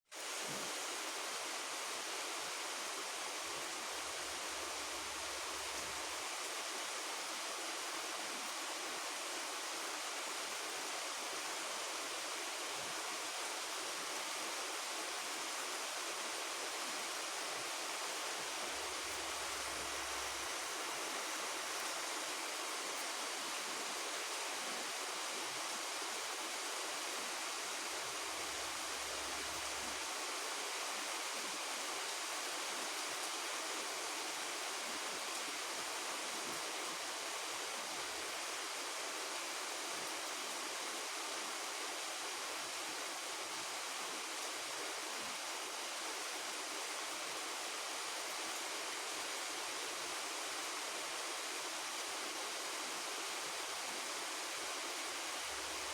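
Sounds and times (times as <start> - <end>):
rain falling: 0.2 - 55.9.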